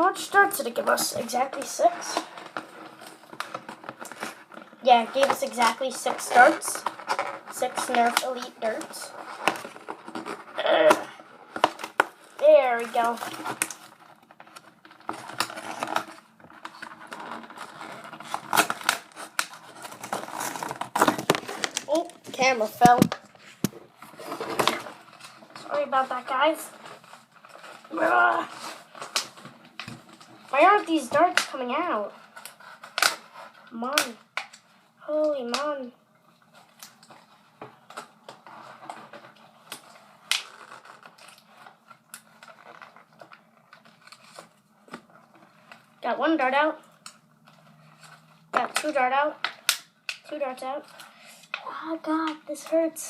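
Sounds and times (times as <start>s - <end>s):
toy packaging scraping and rustling: 0.0s - 34.9s, 36.4s - 53.0s
plastic clicks and crinkles: 0.1s - 46.0s, 46.8s - 52.8s.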